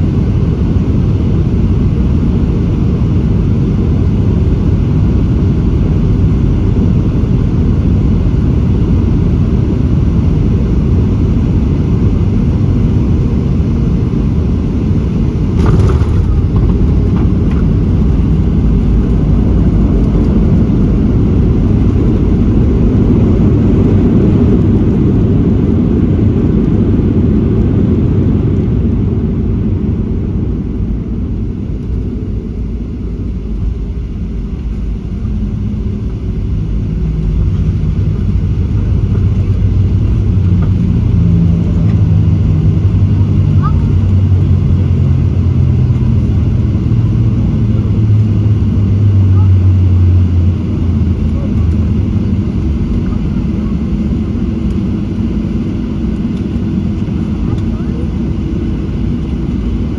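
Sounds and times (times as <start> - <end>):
airplane cabin roar on landing: 0.0 - 59.9.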